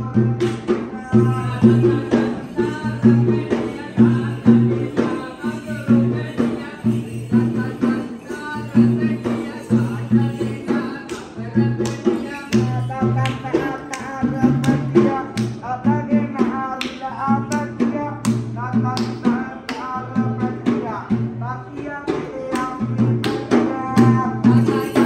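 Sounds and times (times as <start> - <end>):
fast drum beating: 0.0 - 25.0.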